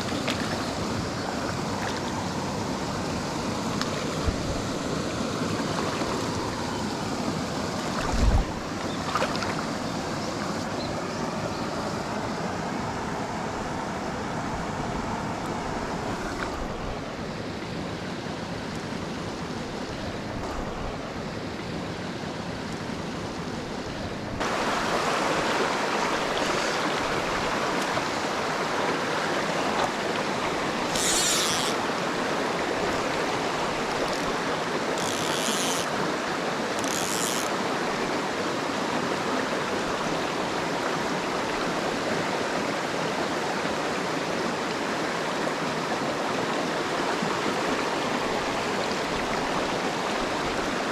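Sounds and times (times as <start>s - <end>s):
stream running over rocks: 0.0s - 50.9s.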